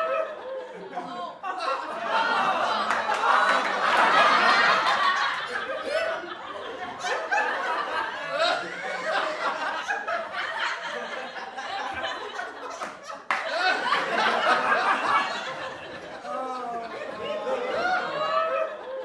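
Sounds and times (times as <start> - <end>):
group of people laughing: 0.0 - 19.0.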